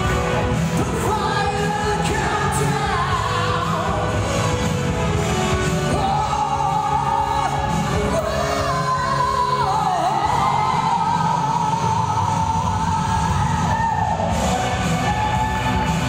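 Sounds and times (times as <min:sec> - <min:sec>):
person singing into a microphone: 0:00.0 - 0:04.7, 0:05.6 - 0:15.4
backing music: 0:00.0 - 0:16.0.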